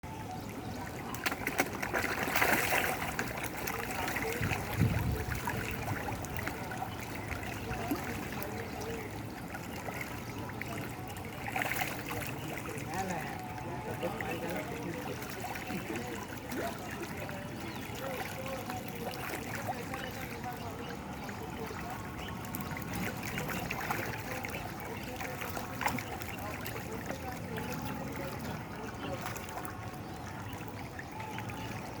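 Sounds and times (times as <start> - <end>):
water trickling: 0.1 - 32.0
small splashes on water: 0.6 - 32.0.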